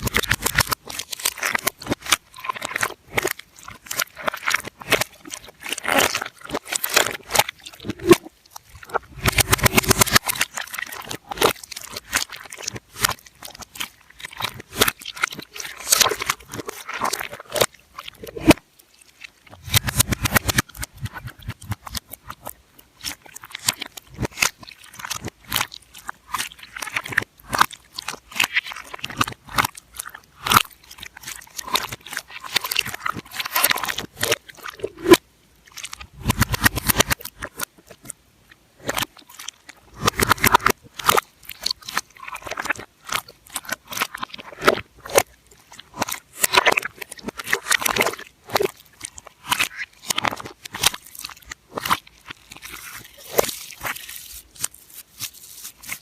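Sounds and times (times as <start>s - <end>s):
reversed crunching and crackling clicks: 0.0s - 56.0s.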